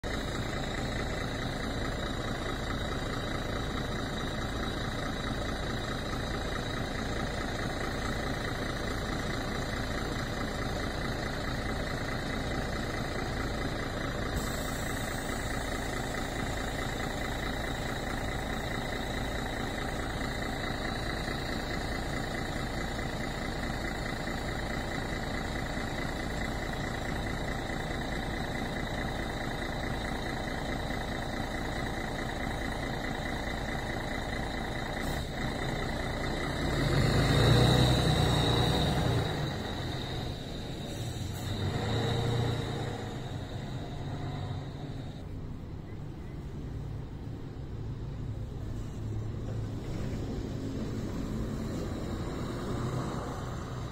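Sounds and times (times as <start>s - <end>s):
diesel bus engine idling: 0.0s - 53.9s.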